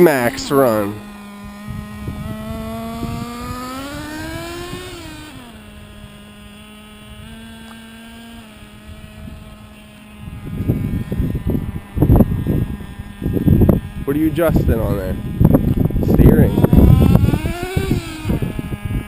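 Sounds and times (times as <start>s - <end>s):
rc truck engine buzzing: 0.0s - 19.0s.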